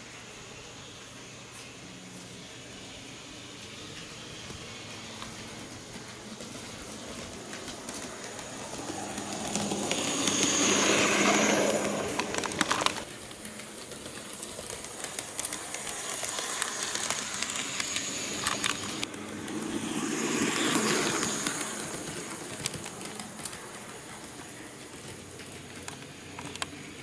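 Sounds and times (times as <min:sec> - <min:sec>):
model train motor humming: 0:00.0 - 0:27.0
wheels clicking over rail joints: 0:03.6 - 0:27.0.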